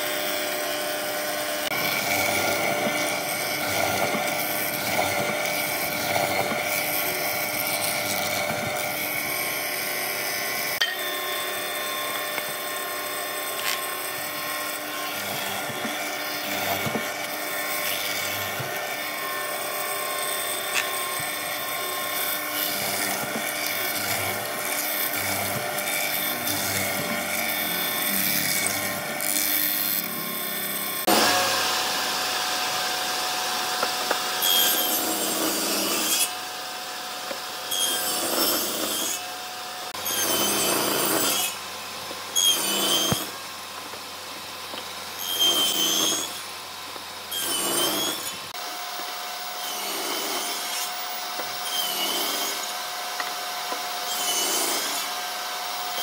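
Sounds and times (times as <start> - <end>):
mortising machine boring wood: 0.0 - 56.0
table saw whining and cutting: 0.0 - 56.0.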